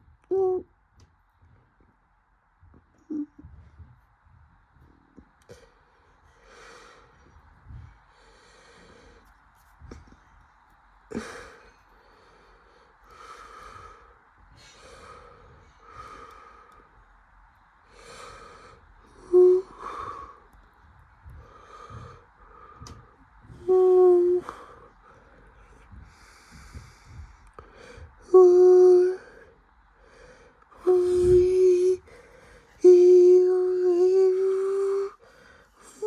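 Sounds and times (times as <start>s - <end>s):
washing machine spinning: 0.0s - 29.9s.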